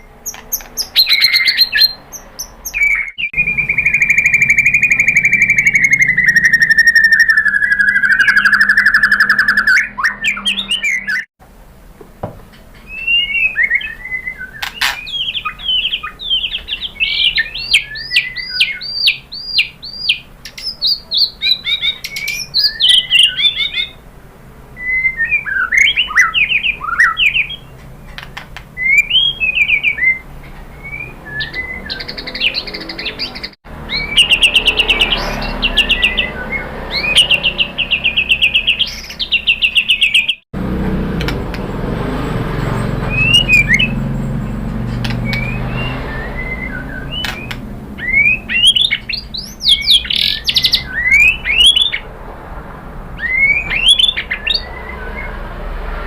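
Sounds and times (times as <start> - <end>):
songbird trilling and singing: 0.0 - 11.3, 12.7 - 24.0, 24.8 - 40.4, 42.8 - 52.1, 53.2 - 55.4.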